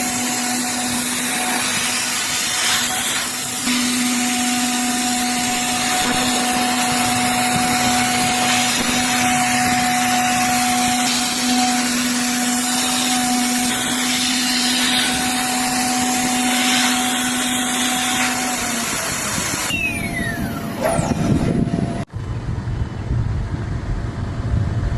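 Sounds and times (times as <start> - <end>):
milling spindle whine: 0.0 - 22.1.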